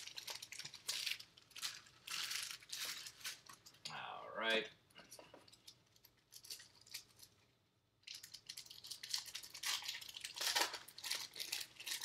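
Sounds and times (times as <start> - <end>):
foil wrapper crinkling and tearing: 0.0 - 3.8, 5.5 - 7.4, 8.0 - 12.0.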